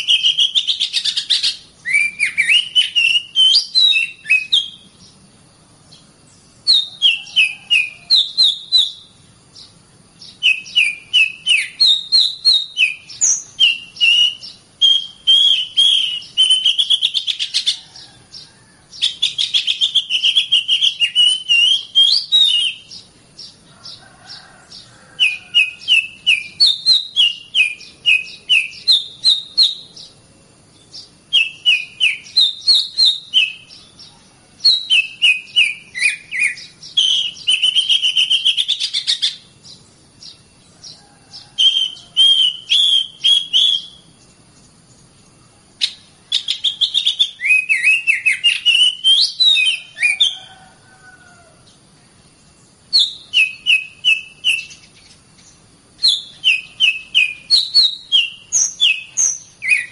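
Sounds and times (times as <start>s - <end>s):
songbird singing trills: 0.0s - 59.9s.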